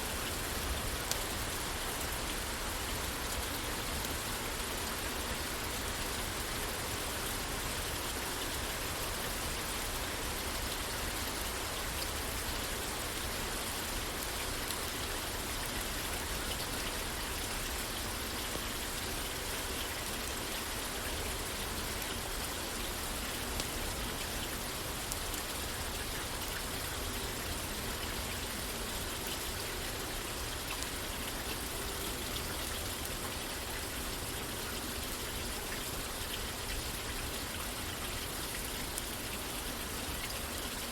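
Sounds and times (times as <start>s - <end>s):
rain falling on a roof: 0.0s - 40.9s.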